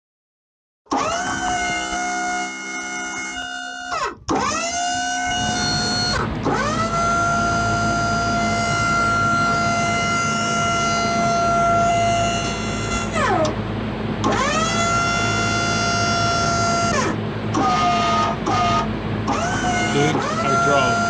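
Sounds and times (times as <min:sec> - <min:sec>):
hydraulic pump motor whine: 0:00.9 - 0:21.0.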